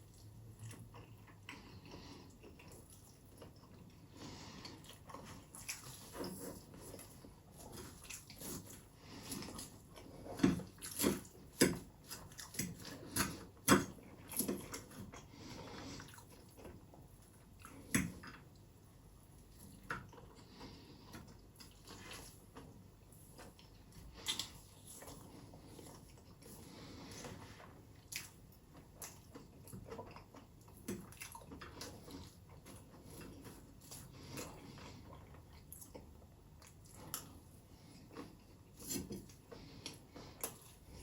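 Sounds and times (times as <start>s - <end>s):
wet chewing and smacking: 0.0s - 41.0s.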